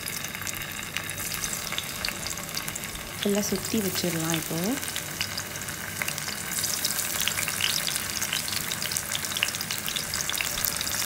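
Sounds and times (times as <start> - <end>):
potato slices sizzling in oil: 0.0 - 11.0.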